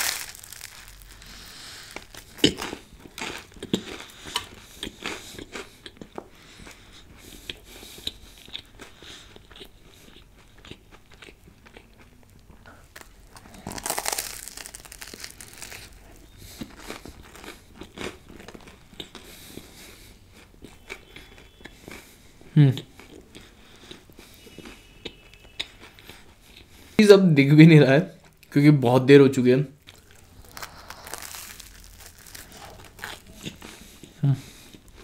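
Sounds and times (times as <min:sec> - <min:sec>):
crunching and chewing sandwich: 0:00.0 - 0:27.0, 0:29.8 - 0:35.0.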